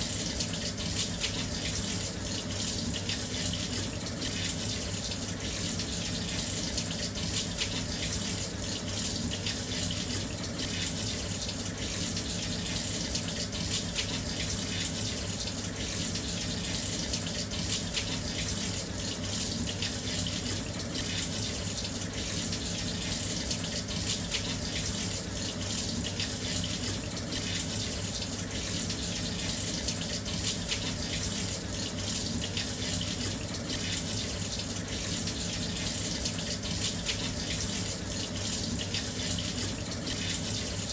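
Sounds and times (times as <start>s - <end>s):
water pouring into washing machine: 0.0s - 40.9s.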